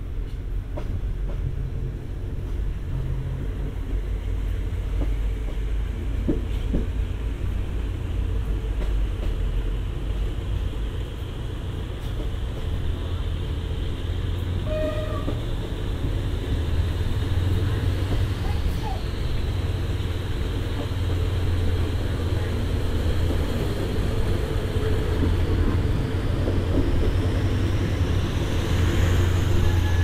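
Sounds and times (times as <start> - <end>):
train carriage rumbling: 0.0 - 30.0.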